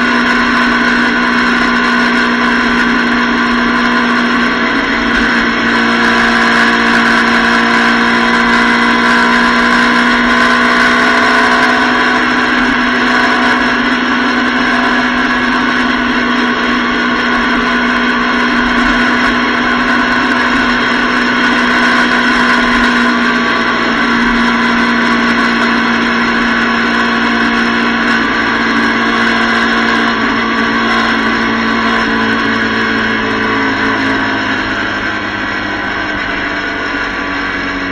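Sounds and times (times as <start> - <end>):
motorcycle engine cruising: 0.0 - 37.9
wind and road noise: 0.0 - 37.9.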